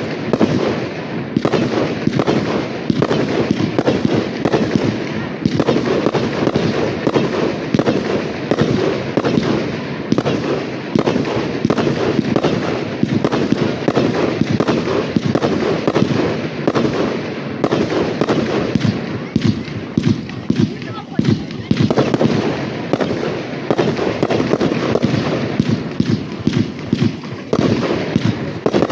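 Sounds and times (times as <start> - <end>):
fireworks banging: 0.0 - 28.9
fireworks crackling: 0.0 - 28.9.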